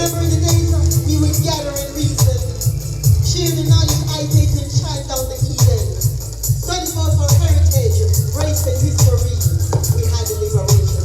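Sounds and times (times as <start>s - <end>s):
deep bass line: 0.0s - 11.0s
hi-hat ticks: 0.0s - 11.0s.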